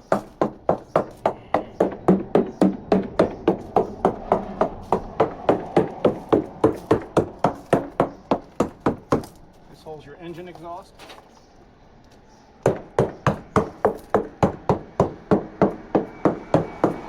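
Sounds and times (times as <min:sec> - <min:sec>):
hammer tapping hollow hull: 0:00.0 - 0:09.4, 0:12.6 - 0:17.0.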